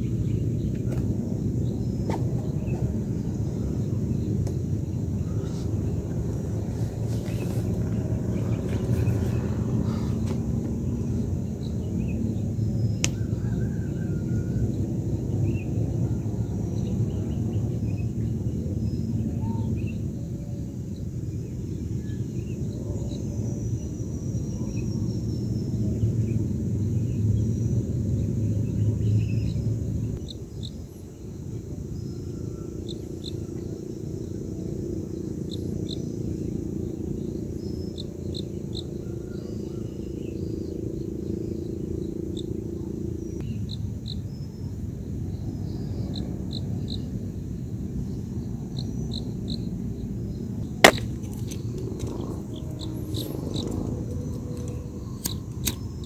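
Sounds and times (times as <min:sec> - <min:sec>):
faint insect chirps: 0:00.0 - 0:56.0.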